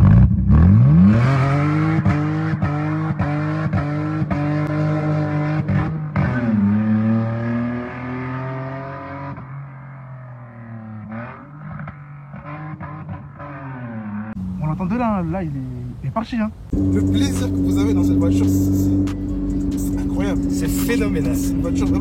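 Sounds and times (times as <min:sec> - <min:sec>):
car engine accelerating hard: 0:00.0 - 0:15.0, 0:16.7 - 0:22.0.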